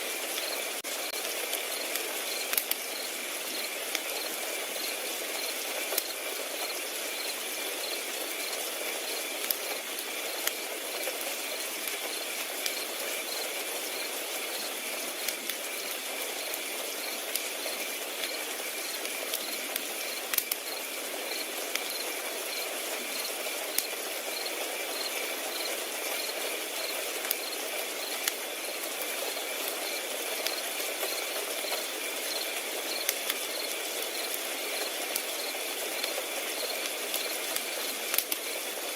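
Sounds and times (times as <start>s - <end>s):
wood fire crackling and popping: 0.0s - 38.9s
crickets chirping: 0.2s - 1.2s, 1.8s - 9.4s, 12.1s - 15.0s, 15.7s - 38.0s.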